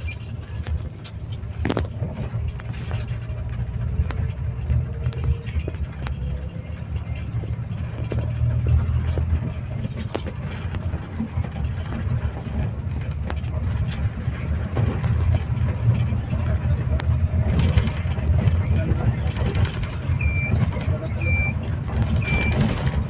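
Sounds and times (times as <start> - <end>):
diesel engine drone: 0.0 - 23.0
interior clicks and rattles: 0.0 - 23.0
road noise: 0.0 - 23.0.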